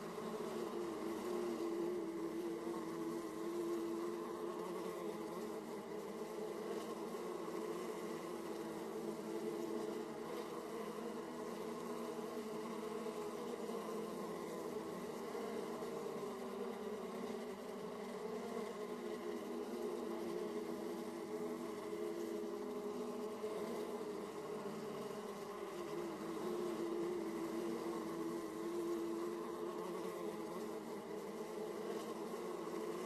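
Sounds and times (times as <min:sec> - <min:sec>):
honey bees buzzing: 0:00.0 - 0:33.0.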